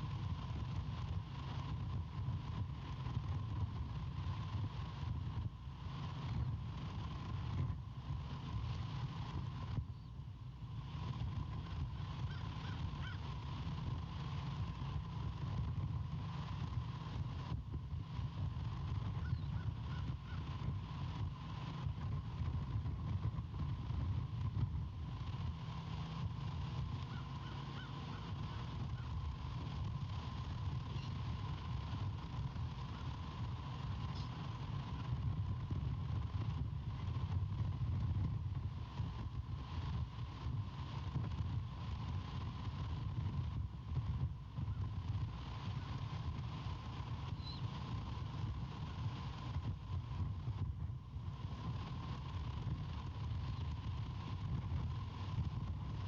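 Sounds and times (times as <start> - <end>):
faint steady whine: 0.0 - 56.0
wind buffeting microphone: 0.0 - 56.0.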